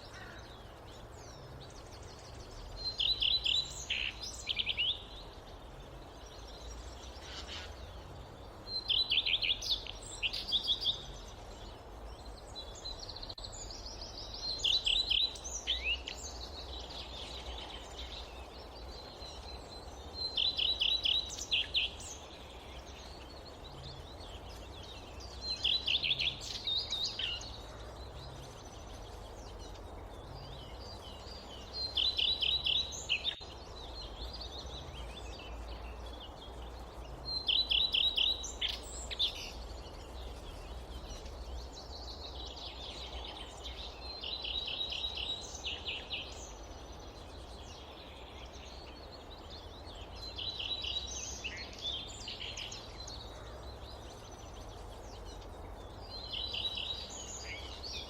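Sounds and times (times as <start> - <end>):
wind through forest: 0.0 - 58.0.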